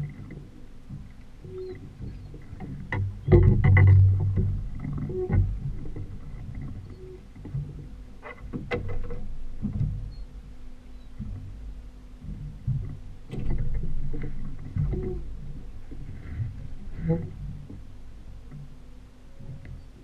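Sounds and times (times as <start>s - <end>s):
boat knocking: 0.0s - 20.0s
outboard motor rumbling: 0.0s - 20.0s
water noise: 0.0s - 20.0s.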